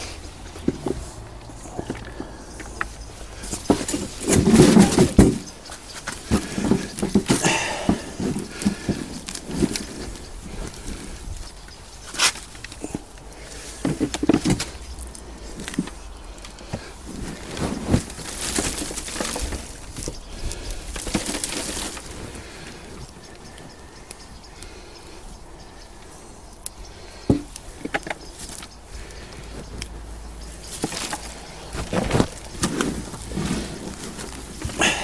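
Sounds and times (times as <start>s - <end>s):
hands scraping through compost: 0.0s - 24.2s, 25.8s - 35.0s.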